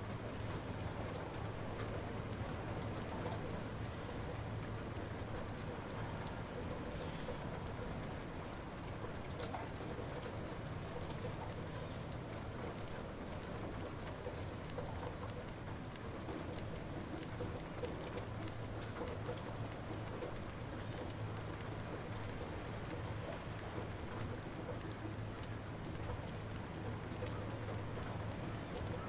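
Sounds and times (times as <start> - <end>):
light rain falling: 0.0 - 29.0
raindrops ticking: 0.8 - 29.0.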